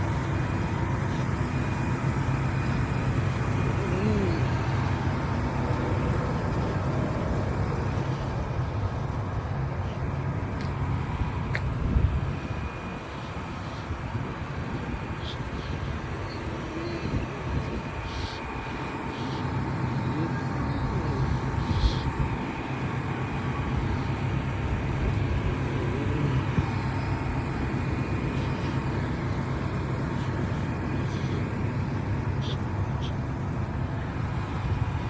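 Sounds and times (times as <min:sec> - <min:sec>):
fire engine idling: 0:00.0 - 0:35.0.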